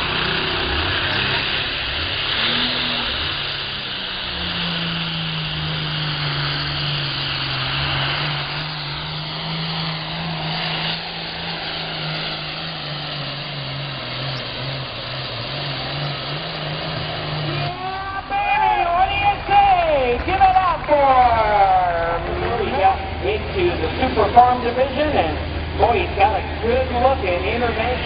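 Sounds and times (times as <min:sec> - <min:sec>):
tractor engine running under load: 0:00.0 - 0:28.0.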